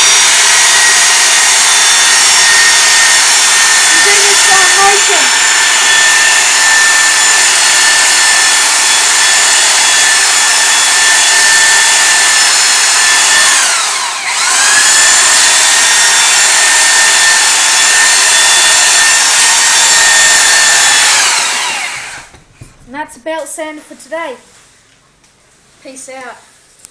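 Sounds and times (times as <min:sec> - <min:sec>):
belt sander whining: 0:00.0 - 0:22.5.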